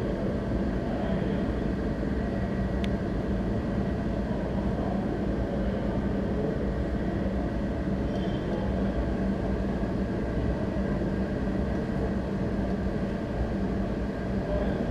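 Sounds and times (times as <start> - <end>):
machine drone with low hum: 0.0 - 14.9.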